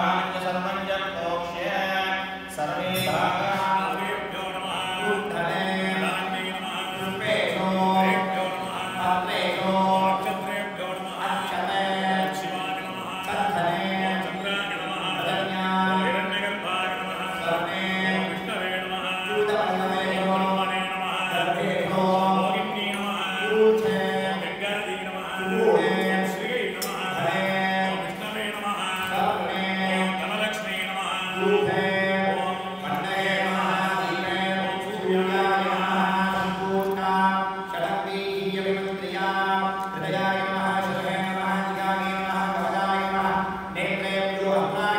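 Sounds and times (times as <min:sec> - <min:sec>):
men chanting: 0:00.0 - 0:44.9.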